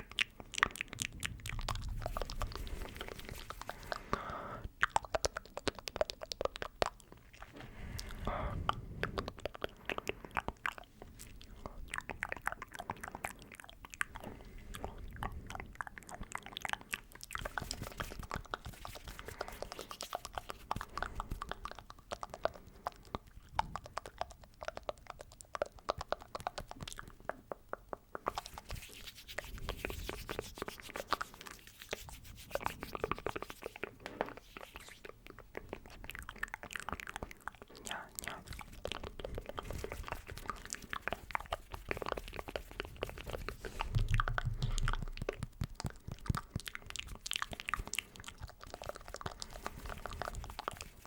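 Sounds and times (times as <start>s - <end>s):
wet mouth clicks and smacks: 0.0s - 51.0s.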